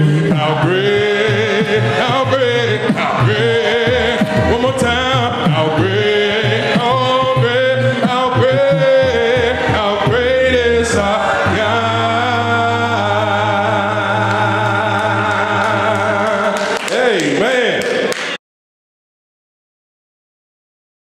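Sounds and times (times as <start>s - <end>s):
congregation singing a cappella: 0.0s - 18.4s.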